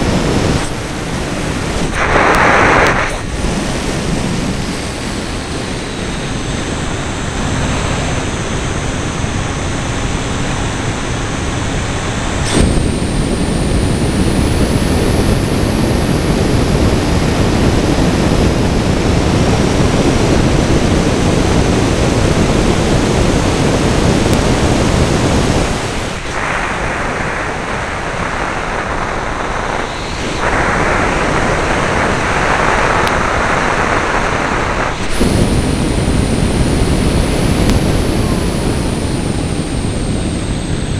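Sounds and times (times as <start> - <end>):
faint high motor whine: 0.0 - 40.9
wind and propeller noise: 0.0 - 40.9.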